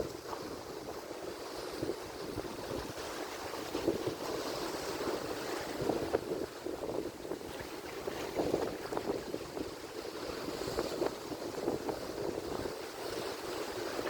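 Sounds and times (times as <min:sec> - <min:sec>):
waves breaking: 0:00.0 - 0:14.0.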